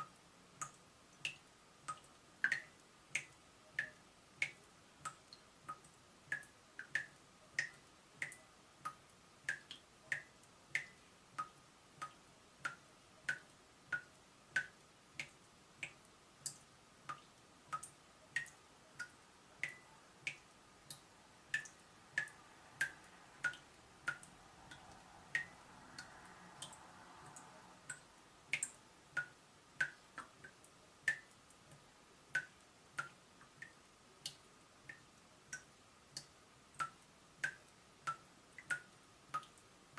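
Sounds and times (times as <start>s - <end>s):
water dripping from tap: 0.0s - 39.9s.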